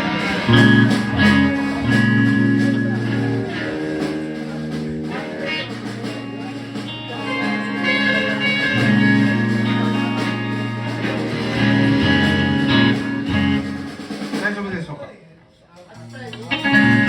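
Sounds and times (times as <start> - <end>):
guitar chords ringing: 0.0 - 14.4, 16.4 - 17.0.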